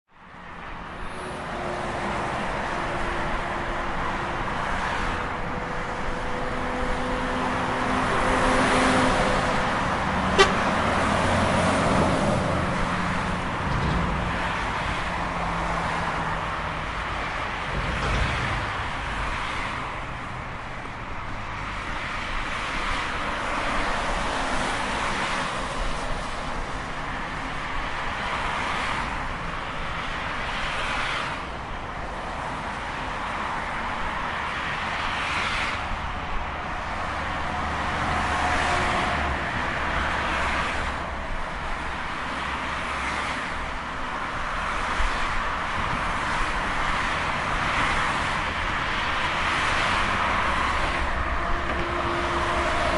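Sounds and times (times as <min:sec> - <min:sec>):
highway traffic: 0:00.0 - 0:52.9.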